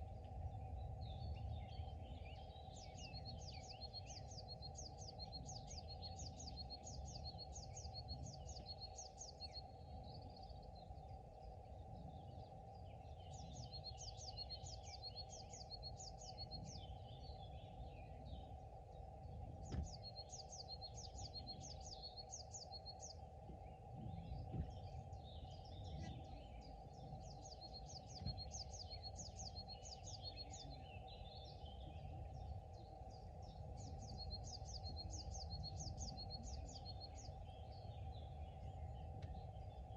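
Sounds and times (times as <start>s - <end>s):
soft bird chirps: 0.0s - 39.9s
steady low hum: 0.0s - 39.9s
wind rumble on microphone: 0.0s - 39.9s.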